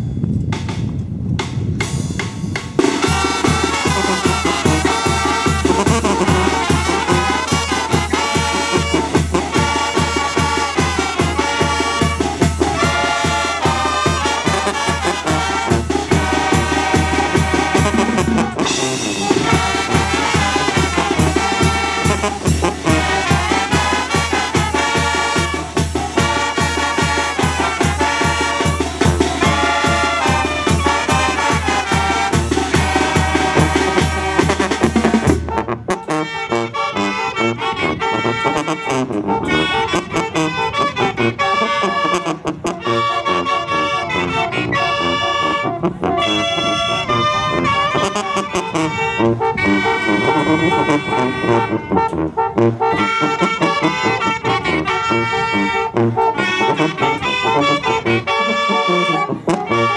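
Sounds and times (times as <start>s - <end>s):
brass band playing: 1.8s - 59.9s.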